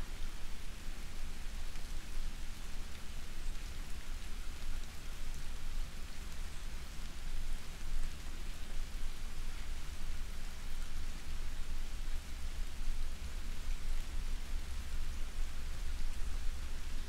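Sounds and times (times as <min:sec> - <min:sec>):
soft rain falling: 0:00.0 - 0:17.0.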